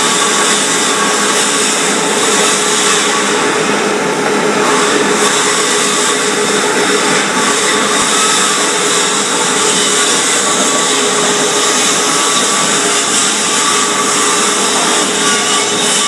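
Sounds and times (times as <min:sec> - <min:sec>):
constant motor whine: 0:00.0 - 0:16.0
floor grinder grinding: 0:00.0 - 0:16.0.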